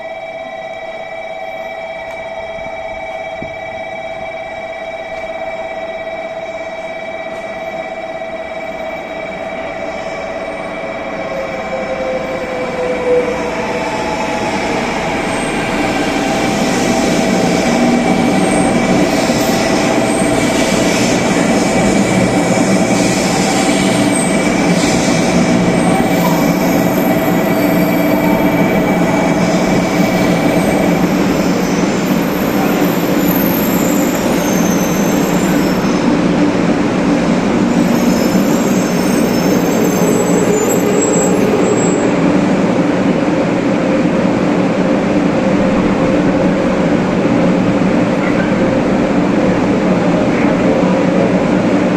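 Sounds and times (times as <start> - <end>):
train rumbling: 0.0 - 51.9.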